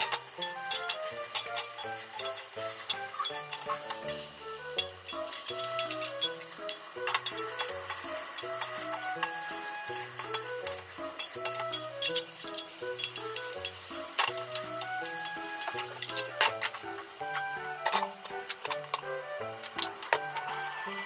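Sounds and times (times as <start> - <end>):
omelette sizzling in a pan: 0.0 - 18.4, 19.5 - 21.0
soft background music with bass: 0.0 - 21.0
utensils clicking and scraping pan: 0.0 - 21.0.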